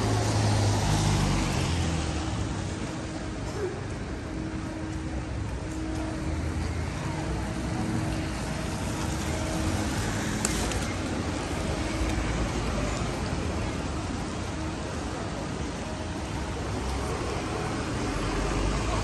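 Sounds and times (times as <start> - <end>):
cars going by: 0.0 - 19.0.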